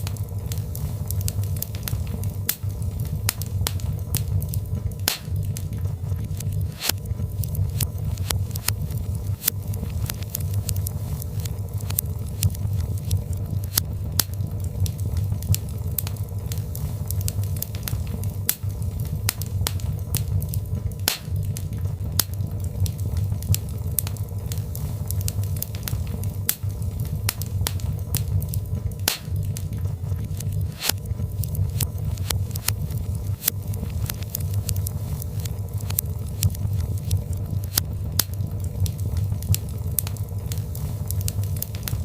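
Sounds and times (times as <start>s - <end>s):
fireplace flames rumbling: 0.0s - 42.0s
wood crackling and popping: 0.0s - 42.0s.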